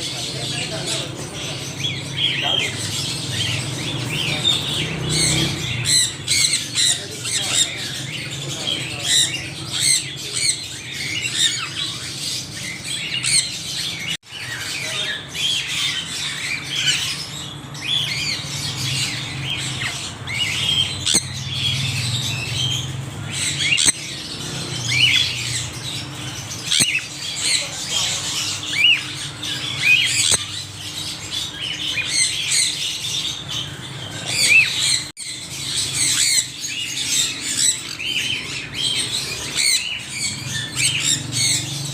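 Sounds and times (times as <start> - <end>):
parrots chattering and squawking: 0.0 - 41.9.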